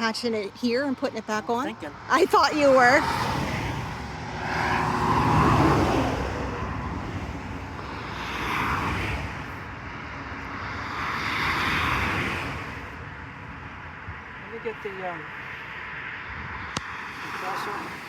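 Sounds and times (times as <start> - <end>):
vehicles passing: 0.0 - 18.0.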